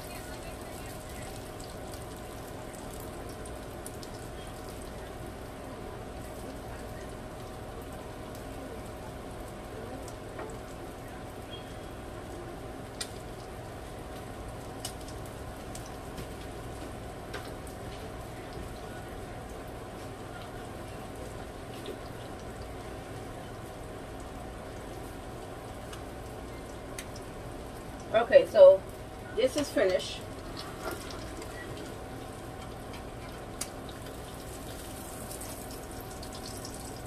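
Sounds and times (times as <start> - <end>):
fish frying in oil: 0.0 - 37.0.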